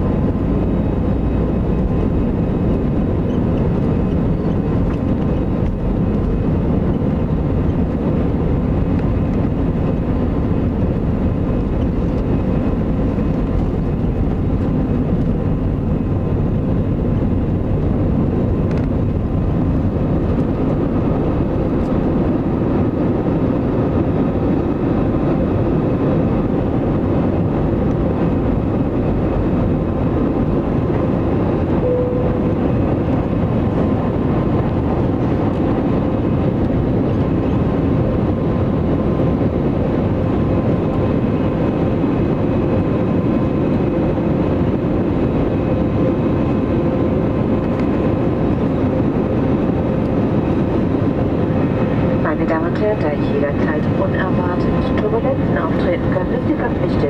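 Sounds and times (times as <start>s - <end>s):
faint steady engine whine: 0.0s - 57.0s
jet engines roaring: 0.0s - 57.0s.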